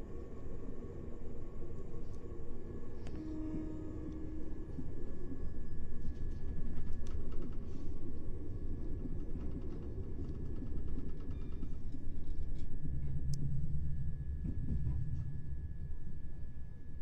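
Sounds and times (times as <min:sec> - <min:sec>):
faint high whine: 0:00.0 - 0:10.4, 0:11.1 - 0:17.0.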